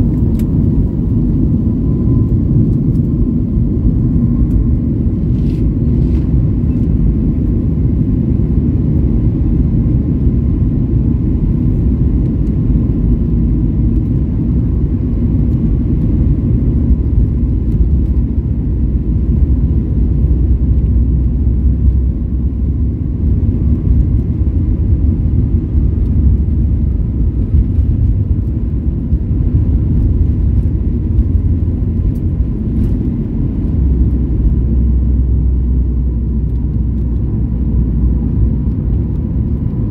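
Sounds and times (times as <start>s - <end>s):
faint steady whine: 0.0s - 39.9s
jet engines and wheels rumbling: 0.0s - 39.9s.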